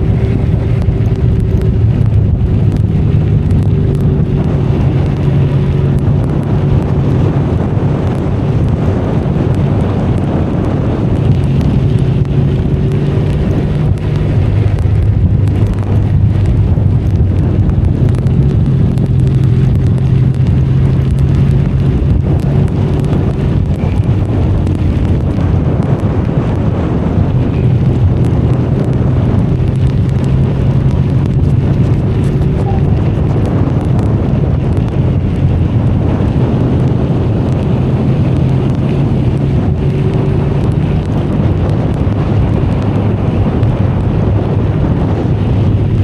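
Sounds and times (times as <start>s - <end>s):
motorcycle engine running: 0.0s - 46.0s
wind on microphone: 0.0s - 46.0s.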